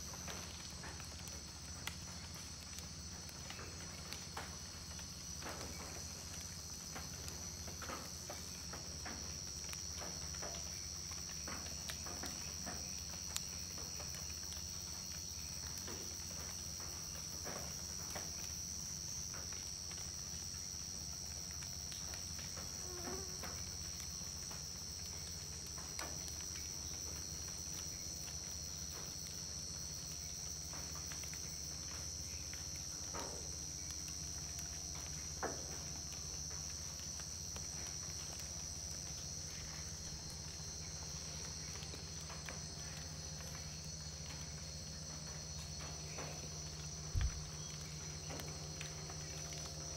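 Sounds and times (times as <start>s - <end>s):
insect chorus drone: 0.0s - 49.9s.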